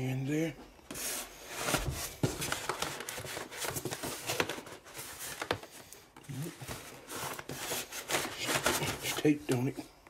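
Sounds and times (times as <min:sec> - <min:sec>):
styrofoam and plastic rubbing: 0:00.9 - 0:09.5.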